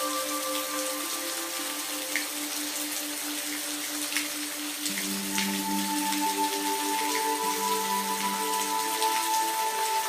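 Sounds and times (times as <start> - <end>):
rain hiss: 0.0 - 10.0
sharp raindrops: 0.0 - 10.0.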